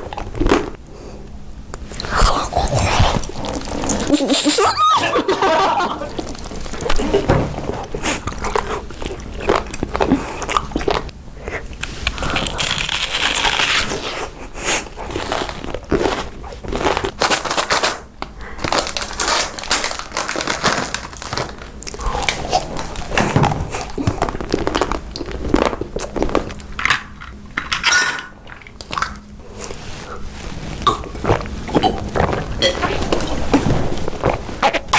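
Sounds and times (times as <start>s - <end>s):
person crunching and chewing food: 0.0s - 34.9s.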